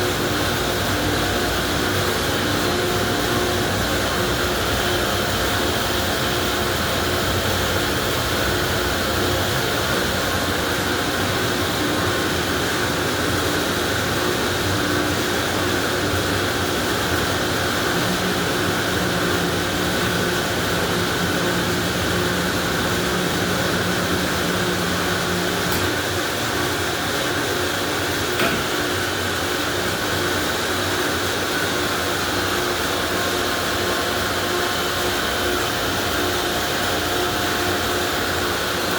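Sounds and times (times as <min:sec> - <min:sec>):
car wash machinery whooshing: 0:00.0 - 0:38.8.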